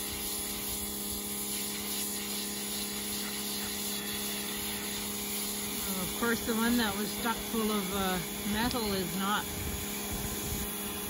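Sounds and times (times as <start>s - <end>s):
pressure washer motor humming: 0.0s - 11.0s
water jet hissing on carpet: 0.0s - 11.0s.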